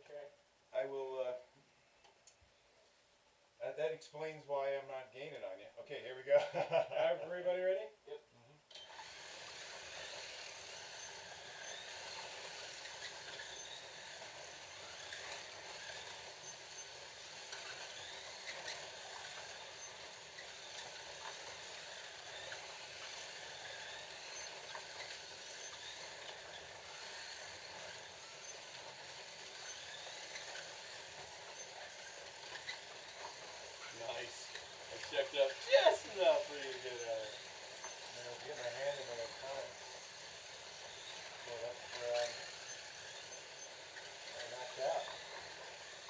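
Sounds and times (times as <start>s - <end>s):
small electric motors whining: 8.6s - 46.0s
slot cars rattling on track: 8.9s - 46.0s.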